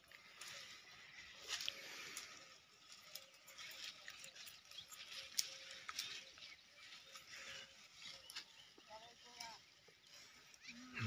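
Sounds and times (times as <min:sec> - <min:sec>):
dry plants rustling and crackling: 0:00.0 - 0:11.0.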